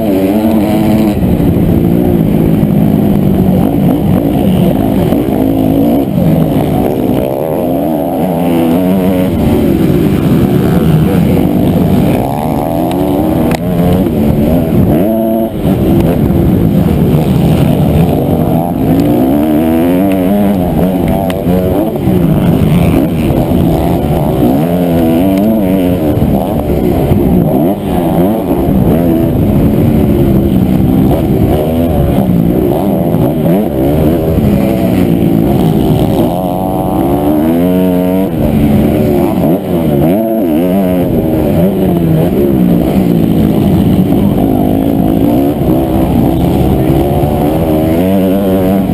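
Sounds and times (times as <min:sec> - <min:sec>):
motocross engine revving: 0:00.0 - 0:48.9.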